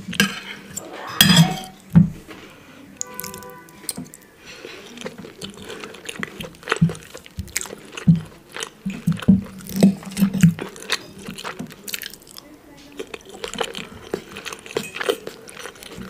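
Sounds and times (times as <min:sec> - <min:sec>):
person chewing food: 0:02.3 - 0:16.0.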